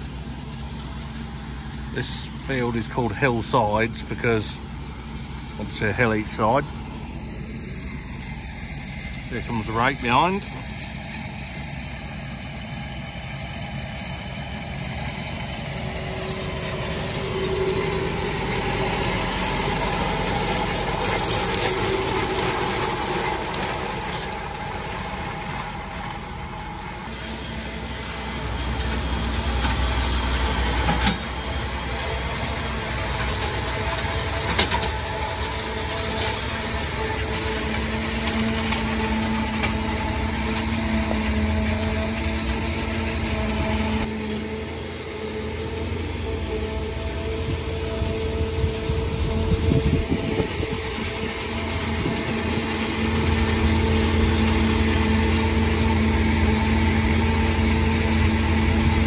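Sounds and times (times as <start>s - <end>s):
tractor engine: 0.0s - 59.0s.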